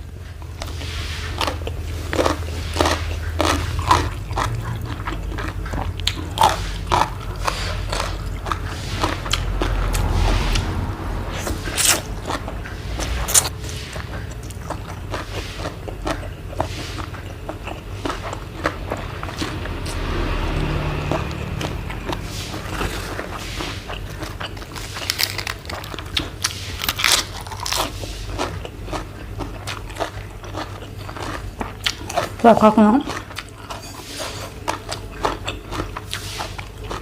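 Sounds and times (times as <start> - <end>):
person chewing and crunching: 0.0 - 10.7, 11.3 - 37.0.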